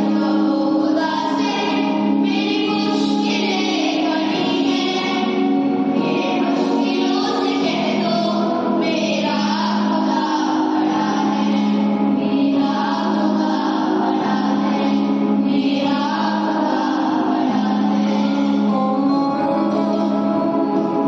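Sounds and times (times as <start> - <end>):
children singing in unison: 0.0 - 19.0.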